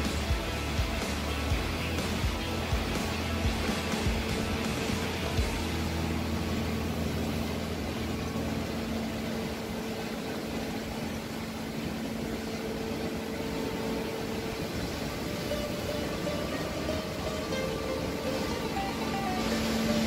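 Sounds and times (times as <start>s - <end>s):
faint sustained whine: 0.0s - 20.0s
steady mechanical hum: 0.0s - 20.0s.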